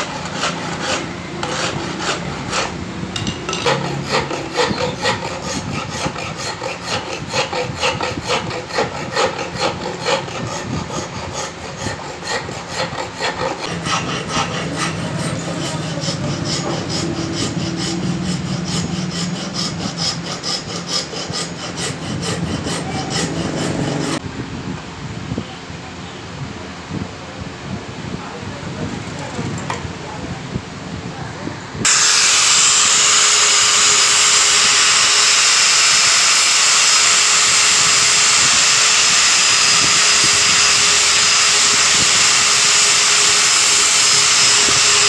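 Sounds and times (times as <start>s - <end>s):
hand tool rasping strokes: 0.0s - 24.2s, 31.9s - 45.0s.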